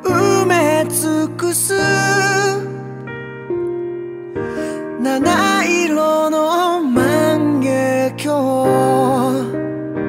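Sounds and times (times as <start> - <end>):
person singing with vibrato: 0.0 - 3.0, 4.5 - 9.7.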